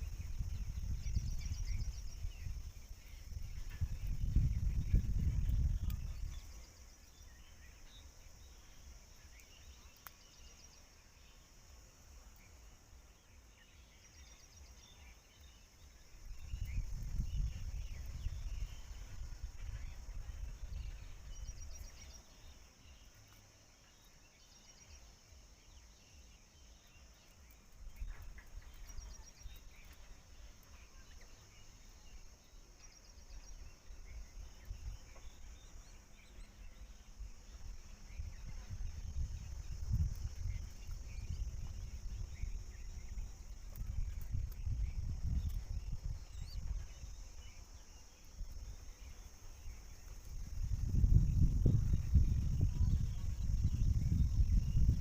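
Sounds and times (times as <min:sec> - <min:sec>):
high insect drone: 0:00.0 - 0:55.0
wind rumbling on microphone: 0:00.0 - 0:55.0.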